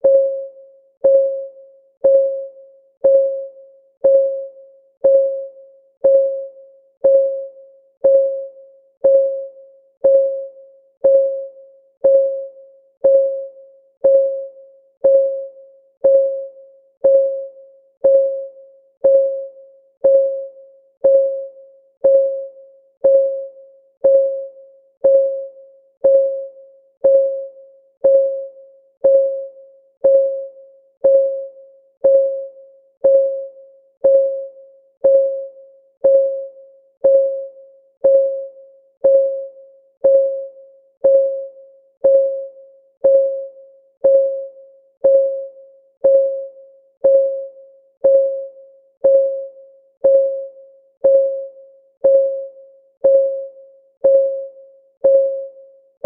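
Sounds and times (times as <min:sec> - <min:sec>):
countdown timer ticking: 0:00.0 - 0:55.6.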